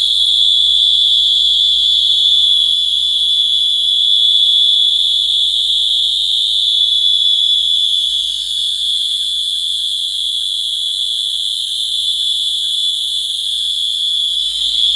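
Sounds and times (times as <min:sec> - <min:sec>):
electronic buzzer high tone: 0:00.0 - 0:14.9.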